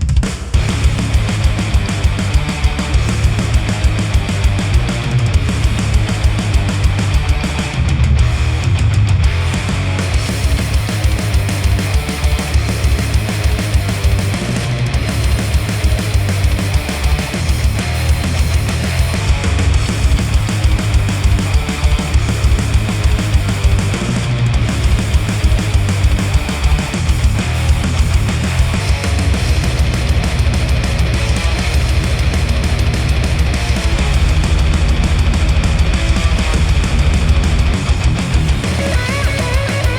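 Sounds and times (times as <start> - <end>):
heavy rock music through headphone: 0.0 - 39.9.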